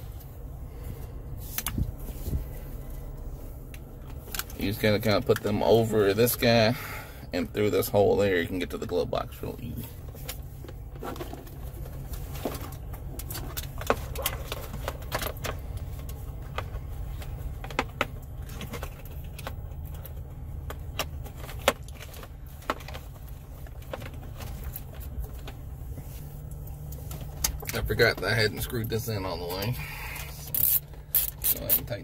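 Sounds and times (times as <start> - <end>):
car engine idling: 0.0 - 32.0
cables and plastic trim rattling: 0.9 - 6.7, 7.7 - 32.0.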